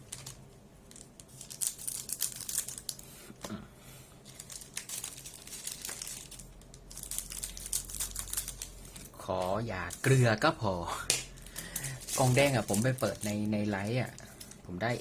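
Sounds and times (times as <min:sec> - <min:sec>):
foil wrapper crinkling: 0:00.0 - 0:03.0, 0:04.3 - 0:10.3, 0:11.3 - 0:15.0.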